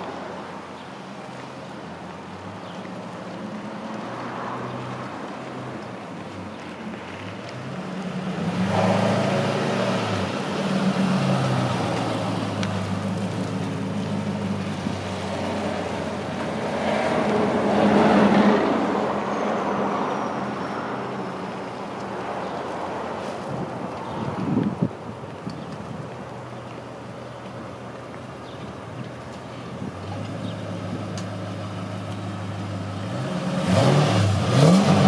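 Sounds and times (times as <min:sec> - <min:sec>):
pickup truck engine driving slowly: 0:00.0 - 0:19.4, 0:20.1 - 0:35.0.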